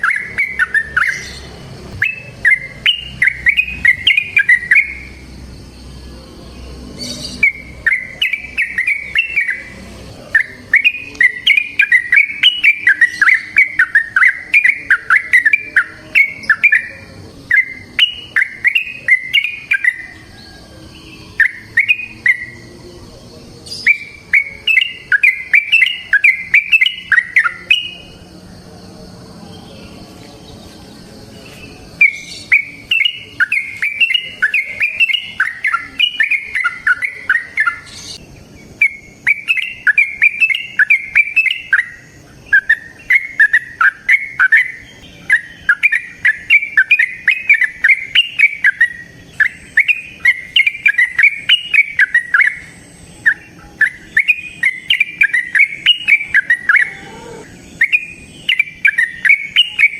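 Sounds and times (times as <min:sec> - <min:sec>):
bulbul singing chattering notes: 0:00.0 - 0:28.5, 0:29.7 - 0:59.9.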